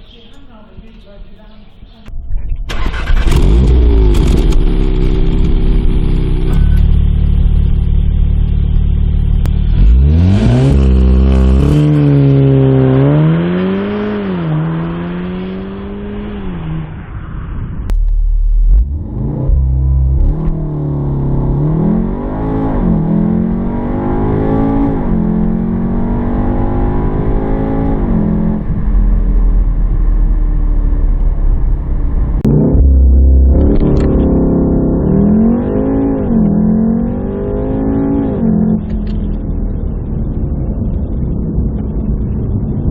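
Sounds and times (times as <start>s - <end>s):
car engine accelerating hard: 2.7s - 42.9s.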